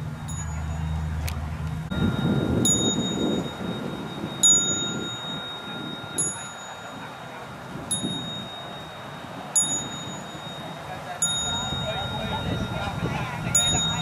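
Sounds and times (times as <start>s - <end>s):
small metal bell ringing: 0.0s - 14.0s.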